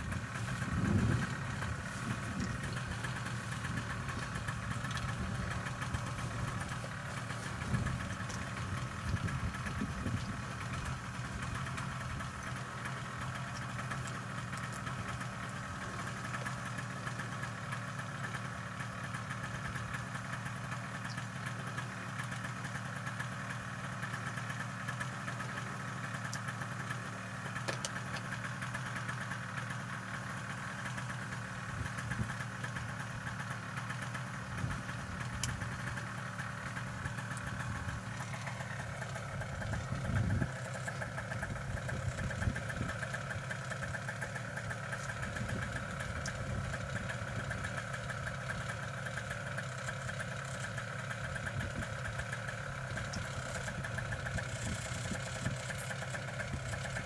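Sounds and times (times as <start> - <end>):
two-stroke engine idling: 0.0 - 57.0.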